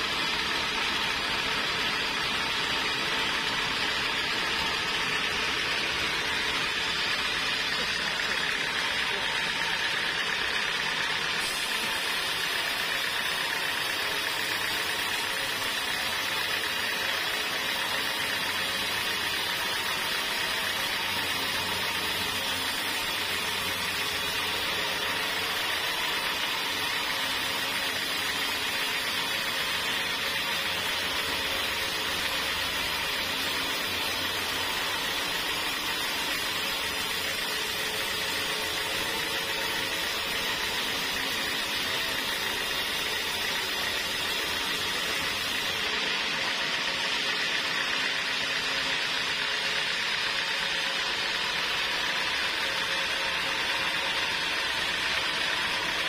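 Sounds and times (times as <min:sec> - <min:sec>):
band saw cutting a log: 0:00.0 - 0:56.0.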